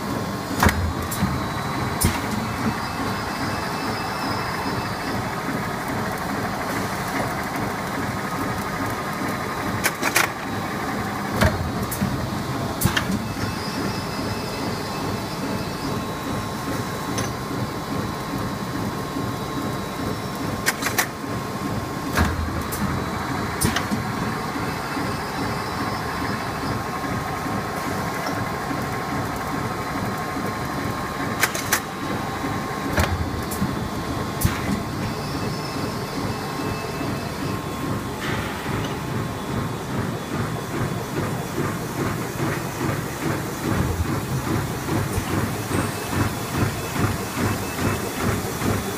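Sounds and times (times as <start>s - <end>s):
machine humming with high whine: 0.0s - 48.9s.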